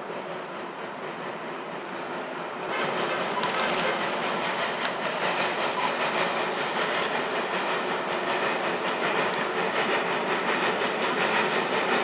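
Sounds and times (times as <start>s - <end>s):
steam locomotive exhaust: 0.0s - 12.0s.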